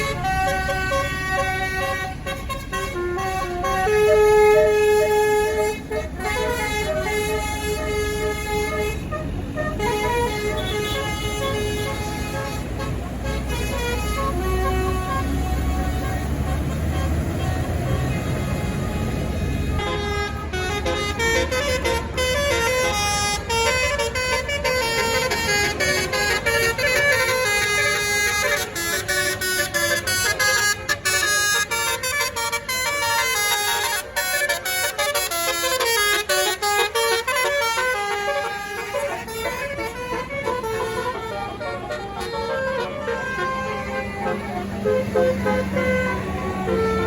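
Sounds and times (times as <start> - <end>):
bus engine rumbling: 0.0 - 47.0
bus horn playing a tune: 0.0 - 47.0.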